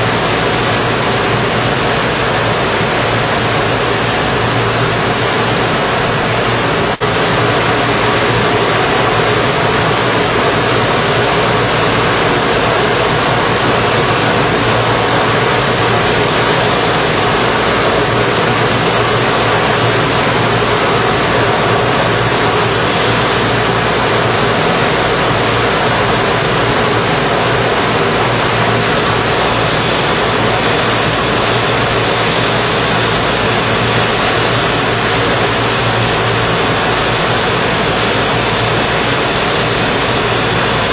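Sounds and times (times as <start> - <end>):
sanding machine running: 0.0 - 40.9.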